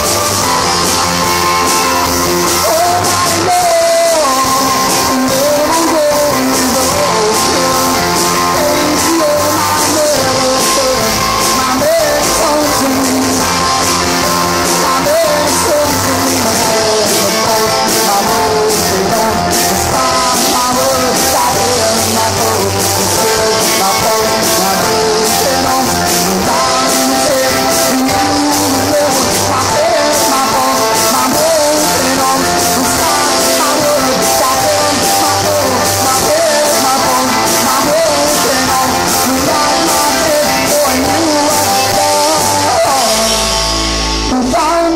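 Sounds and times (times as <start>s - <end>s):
drum kit with cymbals: 0.0s - 44.9s
electric guitars: 0.0s - 44.9s
keyboard: 0.0s - 44.9s
man singing: 0.0s - 44.9s.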